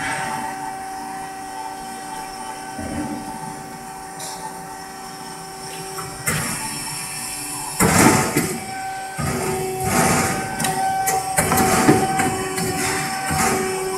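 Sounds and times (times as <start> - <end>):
cutting machine humming: 0.0 - 13.9
loud noisy machine surges: 0.0 - 13.9.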